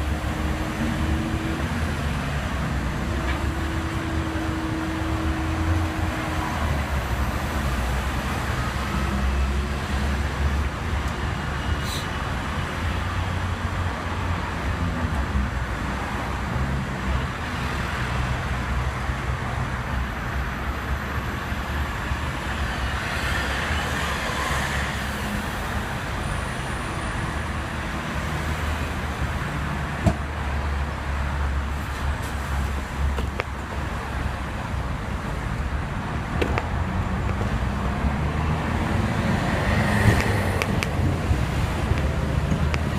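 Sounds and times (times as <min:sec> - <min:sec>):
road traffic: 0:00.0 - 0:42.9
tram rumbling on track: 0:00.0 - 0:42.9.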